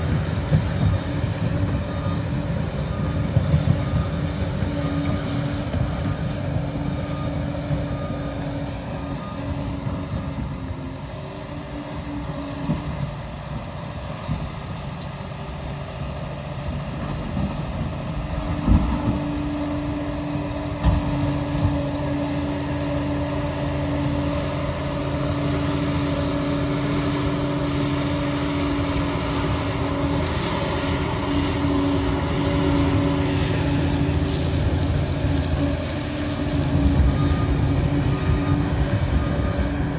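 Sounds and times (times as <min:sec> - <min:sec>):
dozer diesel engine humming: 0:00.0 - 0:39.9.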